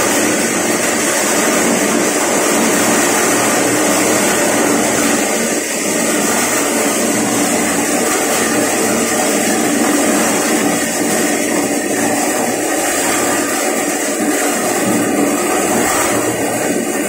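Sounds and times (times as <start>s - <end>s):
maize sheller motor running: 0.0s - 17.0s.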